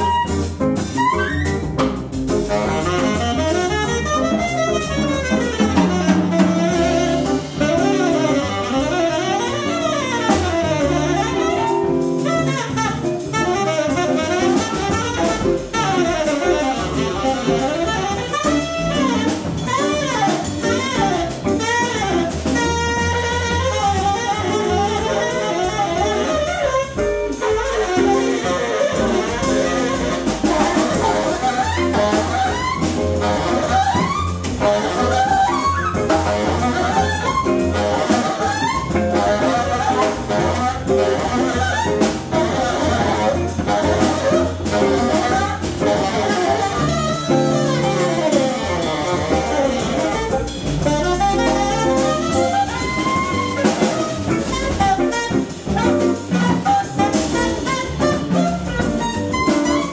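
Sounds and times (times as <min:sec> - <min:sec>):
drum kit: 0:00.0 - 0:59.9
tenor saxophone soloing: 0:00.0 - 0:59.9
upright bass: 0:00.0 - 0:59.9.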